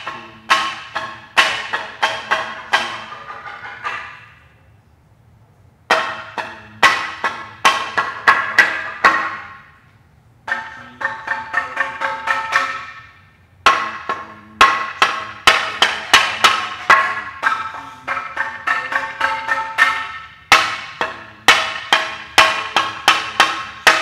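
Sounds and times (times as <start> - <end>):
ceramic percussion struck with sticks: 0.0 - 4.5, 5.9 - 9.8, 10.5 - 24.0.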